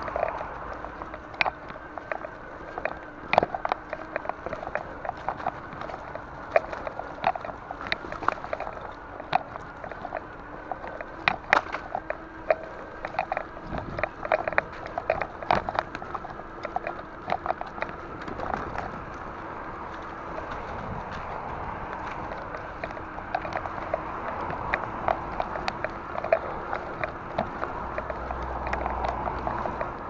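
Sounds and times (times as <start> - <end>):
bike jolting clicks and knocks: 0.0 - 30.0
tyres rolling on trail: 0.0 - 30.0.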